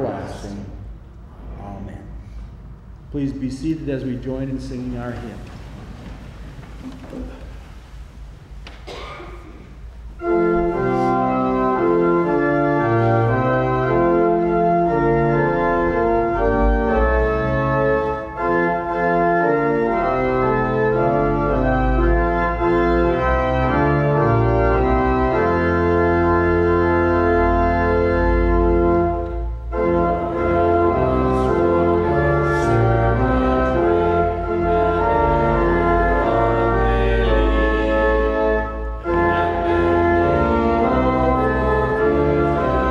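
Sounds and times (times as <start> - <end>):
church organ playing a hymn: 0.0 - 1.1, 3.1 - 8.0, 10.0 - 42.9.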